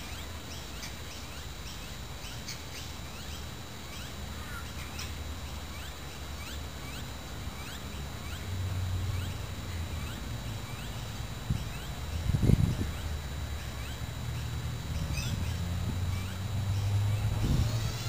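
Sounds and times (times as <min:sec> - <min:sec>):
even hiss: 0:00.0 - 0:18.0
low hum: 0:00.0 - 0:18.0
thin steady high tone: 0:00.0 - 0:18.0.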